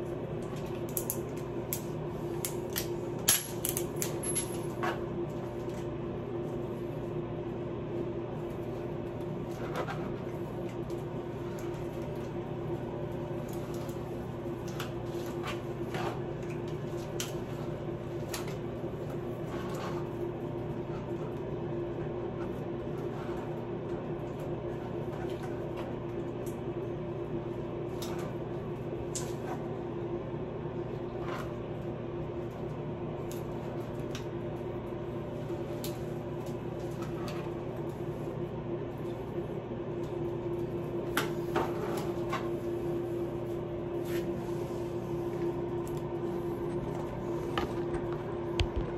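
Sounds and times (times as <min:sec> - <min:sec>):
steady humming tone: 0:00.0 - 0:48.9.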